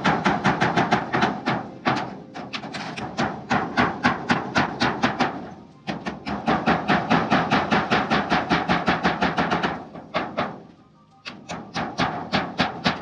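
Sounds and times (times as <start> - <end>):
hammer nailing metal roofing: 0.0 - 13.0.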